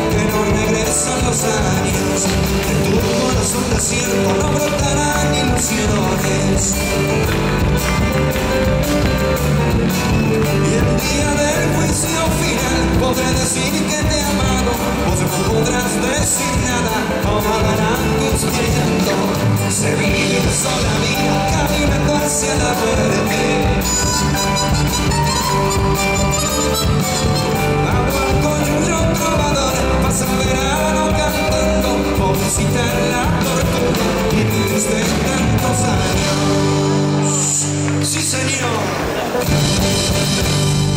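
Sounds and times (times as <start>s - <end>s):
man singing into a microphone: 0.0s - 7.8s, 10.3s - 40.2s
folk band playing: 0.0s - 40.9s.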